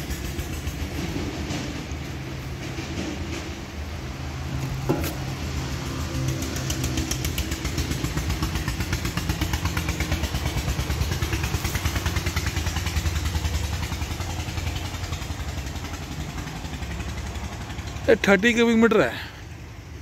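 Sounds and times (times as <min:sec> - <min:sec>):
engine running with throbbing pulse: 0:00.0 - 0:20.0.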